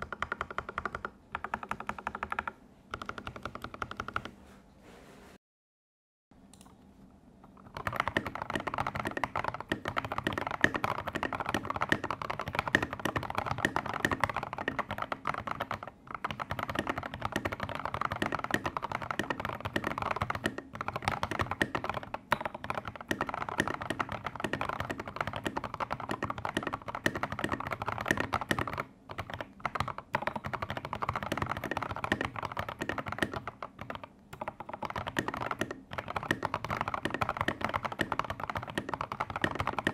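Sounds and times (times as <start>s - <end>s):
fast typing on mechanical keyboard: 0.0s - 4.3s, 7.6s - 39.9s.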